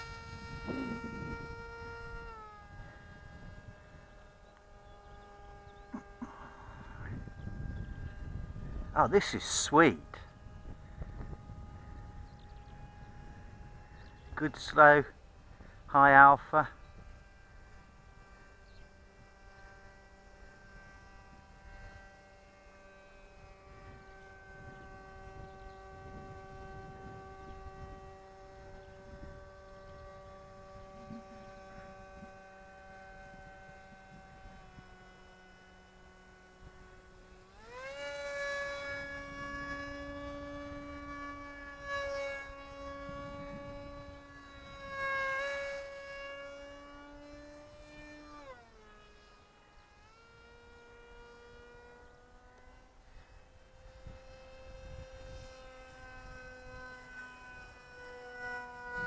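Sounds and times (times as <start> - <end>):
electric motor and propeller whining: 0.0 - 59.0.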